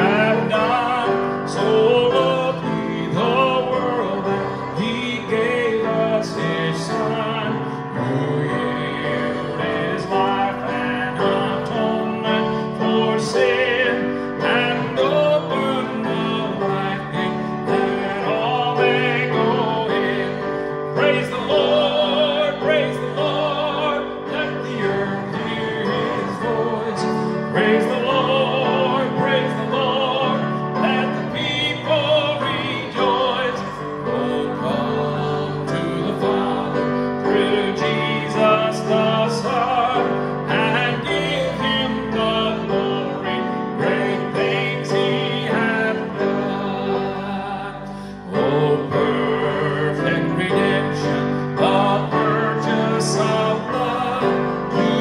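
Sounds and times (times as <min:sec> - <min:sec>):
man singing with vibrato: 0:00.0 - 0:55.0.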